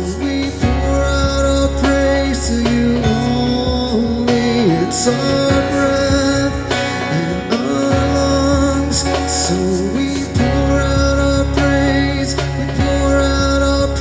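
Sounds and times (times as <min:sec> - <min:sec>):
electronic keyboard chords: 0:00.0 - 0:14.0
man singing: 0:00.0 - 0:14.0.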